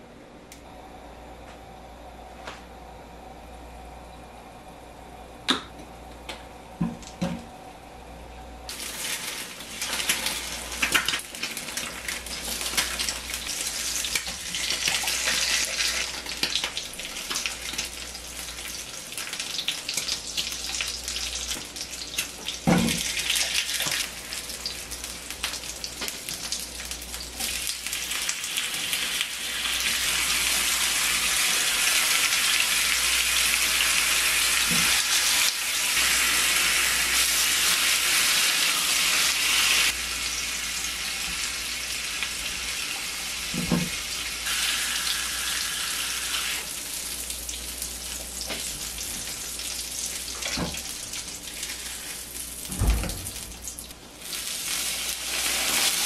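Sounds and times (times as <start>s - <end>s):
food sizzling in a frying pan: 8.7s - 52.8s, 53.4s - 56.0s.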